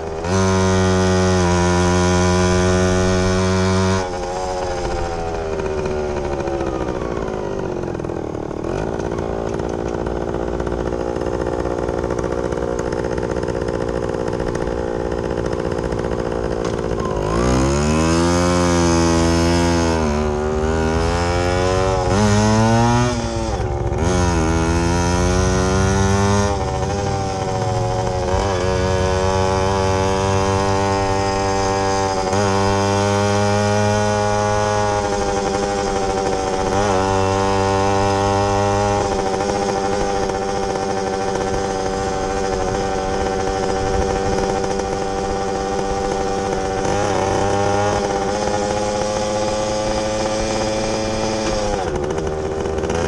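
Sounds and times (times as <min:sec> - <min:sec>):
two-stroke motorcycle engine: 0:00.0 - 0:53.0.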